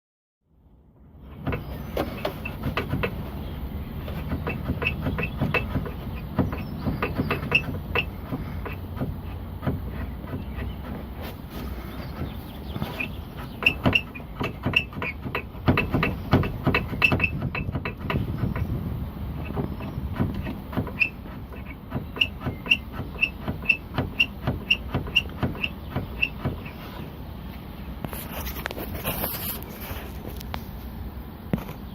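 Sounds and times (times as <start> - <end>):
car engine rumbling: 0.5 - 31.9
car panel squeaking and creaking: 1.0 - 31.0.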